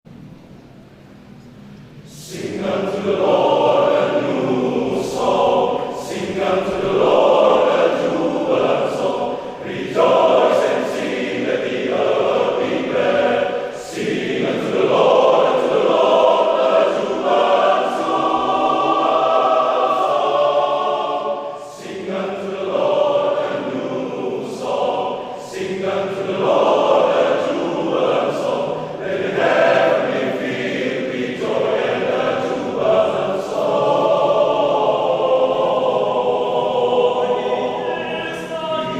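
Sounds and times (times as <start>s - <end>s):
choir singing: 2.0s - 38.9s.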